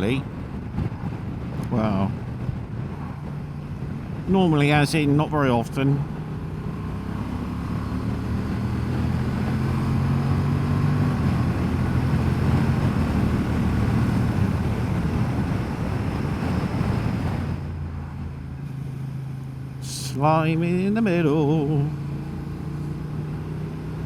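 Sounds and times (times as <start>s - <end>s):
wind rush on microphone: 0.0s - 19.8s
motorcycle engine cruising: 0.0s - 24.0s.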